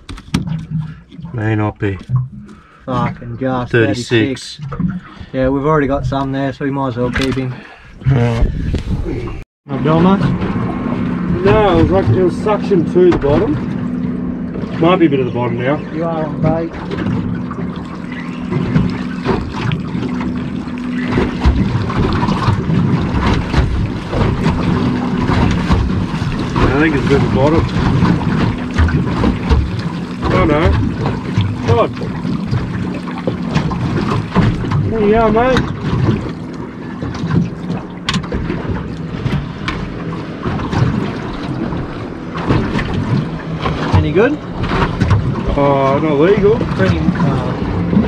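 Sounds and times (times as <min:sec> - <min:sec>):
water slapping against hull: 0:00.0 - 0:48.0
wind buffeting microphone: 0:03.0 - 0:48.0.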